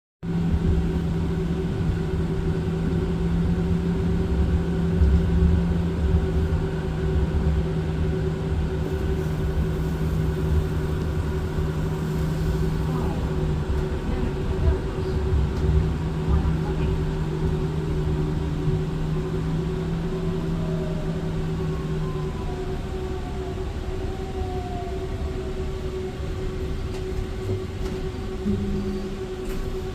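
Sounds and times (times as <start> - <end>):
low rumble: 0.2 - 29.9.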